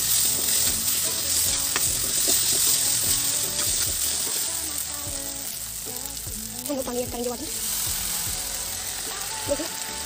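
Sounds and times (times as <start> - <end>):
spices sizzling in hot oil: 0.0 - 10.0.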